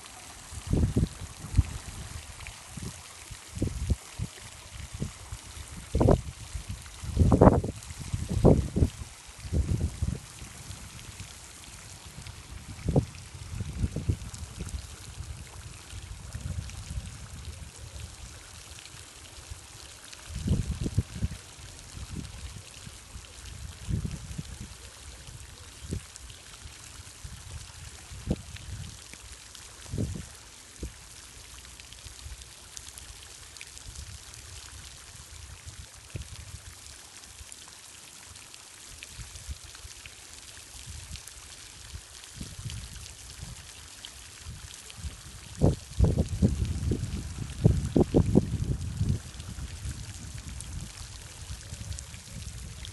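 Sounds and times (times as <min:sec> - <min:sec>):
water trickling: 0:00.0 - 0:52.9.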